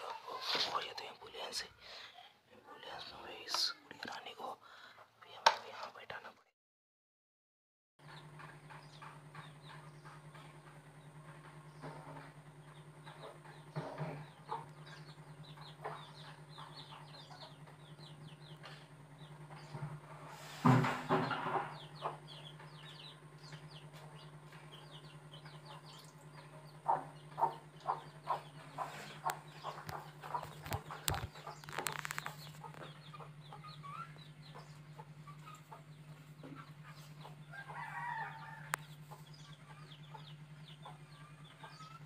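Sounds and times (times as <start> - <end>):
clucking animal calls: 8.0 - 42.0
steady low hum: 8.0 - 42.0.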